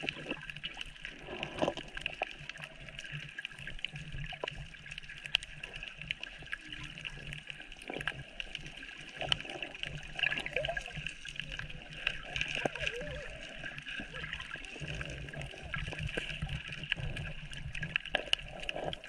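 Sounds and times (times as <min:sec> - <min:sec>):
running water: 0:00.0 - 0:19.0.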